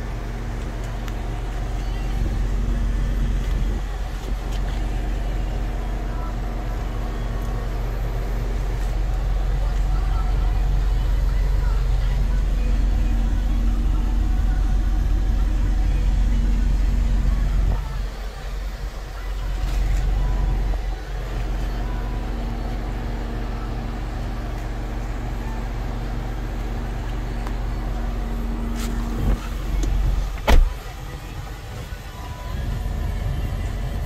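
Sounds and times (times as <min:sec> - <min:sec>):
small car engine idling: 0:00.0 - 0:34.0.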